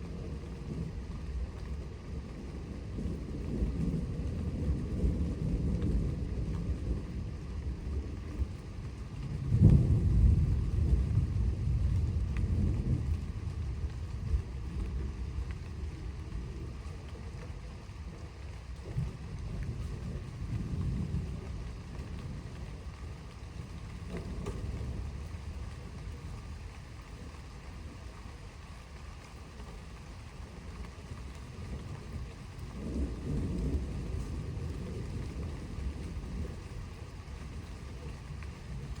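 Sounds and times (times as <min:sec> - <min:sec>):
rain: 0:00.0 - 0:39.0
thunder rumbling: 0:00.0 - 0:39.0.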